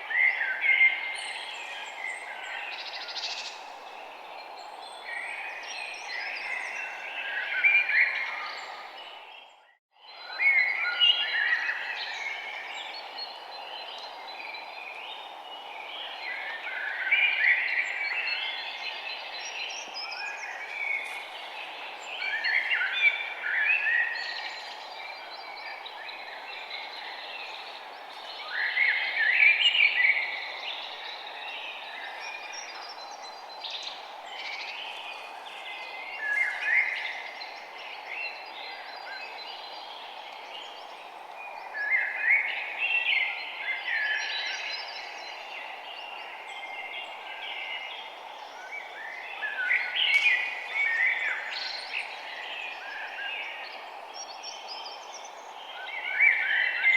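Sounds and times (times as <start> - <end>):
birds chirping: 11.3 - 56.9.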